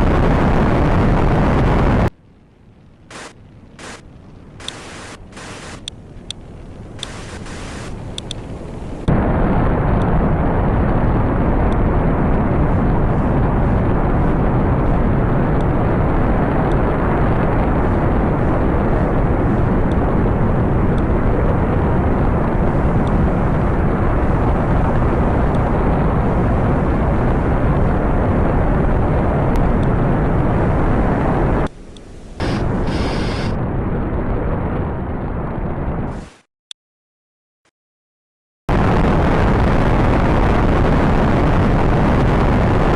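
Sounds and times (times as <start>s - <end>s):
rocket engines roaring: 0.0s - 36.4s.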